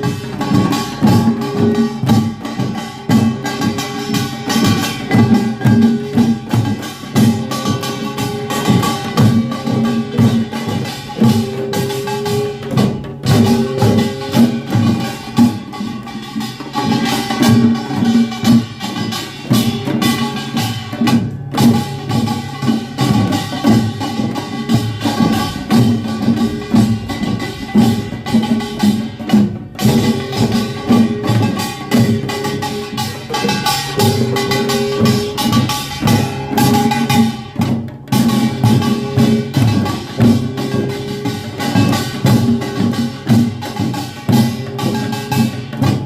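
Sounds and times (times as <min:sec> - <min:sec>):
drums beating a rhythm: 0:00.0 - 0:46.0
gongs clanging: 0:00.0 - 0:46.0.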